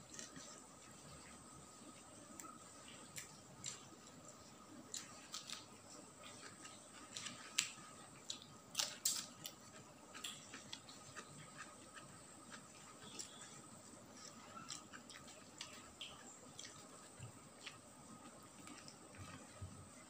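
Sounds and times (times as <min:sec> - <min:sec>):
chewing: 0:00.0 - 0:20.0.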